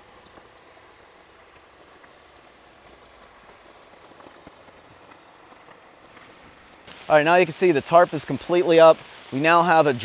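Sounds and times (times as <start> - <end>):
steady rain in a forest: 0.0 - 10.0.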